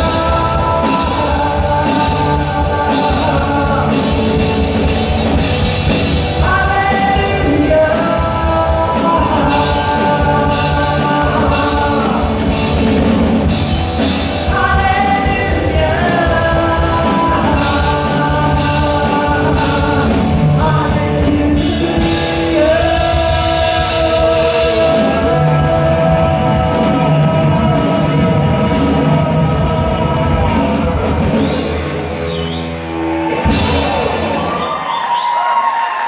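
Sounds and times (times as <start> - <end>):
singers singing: 0.0 - 34.8
rock band playing: 0.0 - 36.0.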